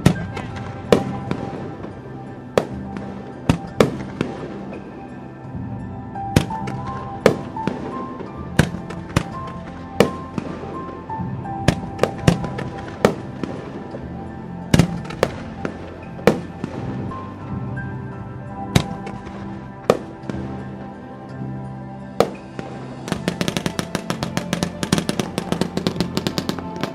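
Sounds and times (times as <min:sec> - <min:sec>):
fireworks bursting with bangs: 0:00.0 - 0:05.1, 0:06.2 - 0:17.4, 0:18.6 - 0:20.9, 0:22.2 - 0:26.9
melodic music: 0:00.0 - 0:26.9.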